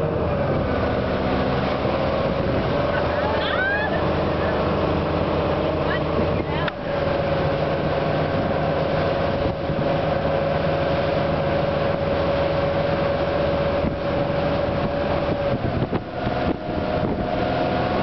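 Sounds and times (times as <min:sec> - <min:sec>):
engine whine: 0:00.0 - 0:18.0
motorboat engine running: 0:00.0 - 0:18.0
rushing water: 0:00.0 - 0:18.0
wind: 0:00.0 - 0:18.0.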